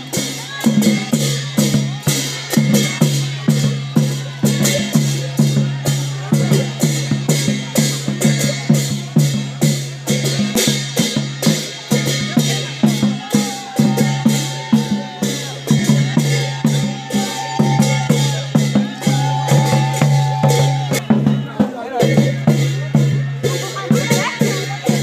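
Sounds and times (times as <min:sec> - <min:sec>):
drum-led music: 0:00.0 - 0:25.0.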